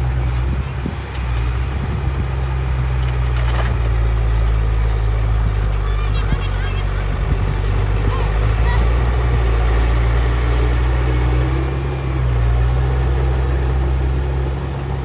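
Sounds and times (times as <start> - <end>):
heavy diesel machinery engine hum: 0.0 - 15.0.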